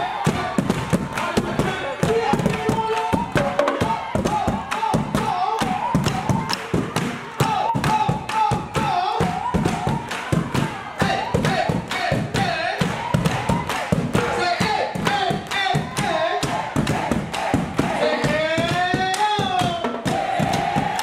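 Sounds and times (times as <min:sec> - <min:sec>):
drumline playing: 0:00.1 - 0:21.0.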